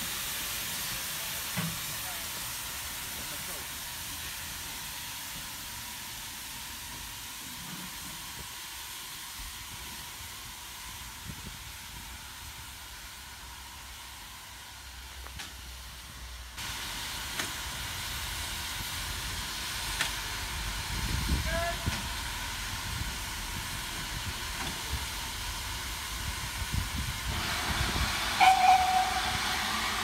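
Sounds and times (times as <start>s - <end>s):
steam hissing: 0.0s - 30.0s.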